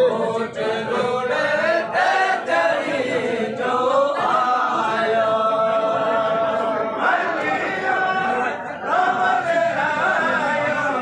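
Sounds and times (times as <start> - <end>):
voices singing together: 0.0 - 11.0.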